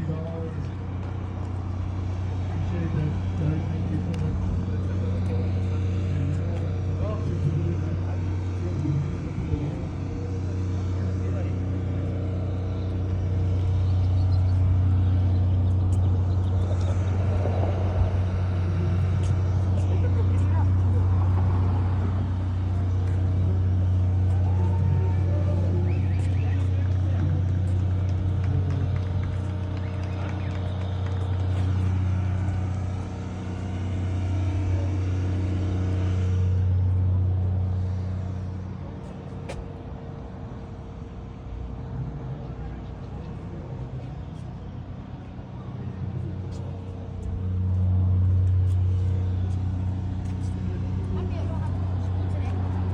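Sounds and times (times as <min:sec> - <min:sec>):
low mechanical hum: 0:00.0 - 0:52.9
vehicle engine idling: 0:00.0 - 0:52.9.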